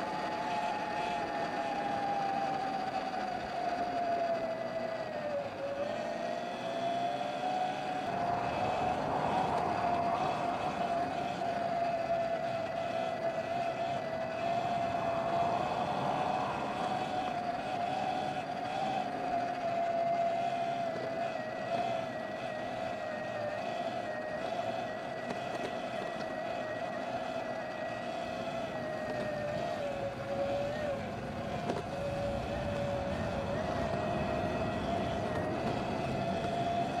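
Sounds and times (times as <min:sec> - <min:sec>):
electric bike motor whining: 0:00.0 - 0:37.0
rushing wind: 0:00.0 - 0:37.0.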